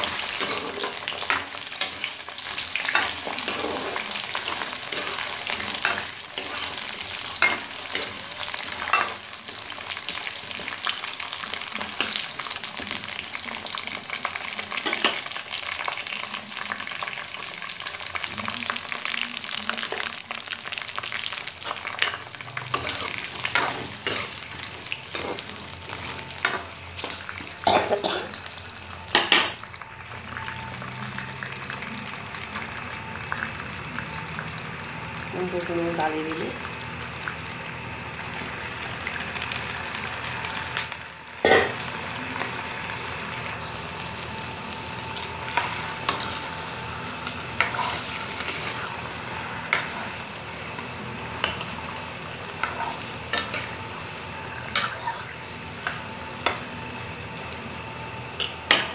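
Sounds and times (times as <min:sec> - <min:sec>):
potatoes sizzling in hot oil: 0:00.0 - 0:58.9.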